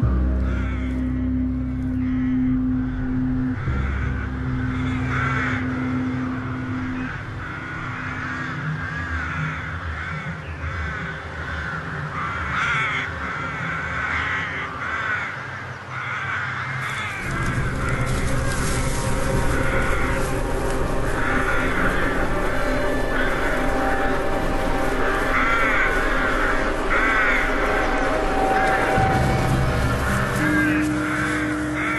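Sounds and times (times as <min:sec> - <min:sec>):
low steady drone: 0:00.0 - 0:14.8, 0:16.8 - 0:31.9
crows cawing: 0:00.2 - 0:31.9.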